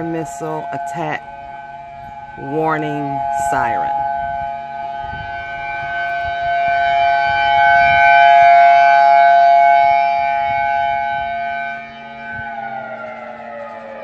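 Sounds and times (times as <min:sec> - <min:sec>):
civil defense siren two-note tone: 0:00.0 - 0:14.0.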